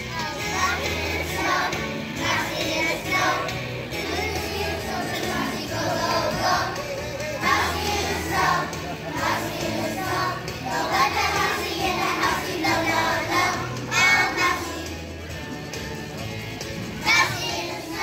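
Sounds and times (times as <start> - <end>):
children's choir singing: 0.0 - 15.3, 17.0 - 18.0.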